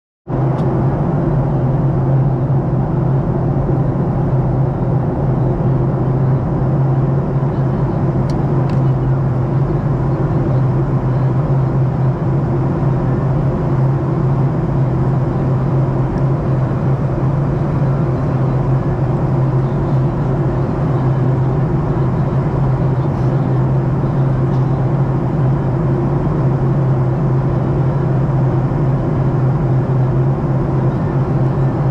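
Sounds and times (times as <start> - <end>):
airliner cabin engine drone: 0.3 - 31.9.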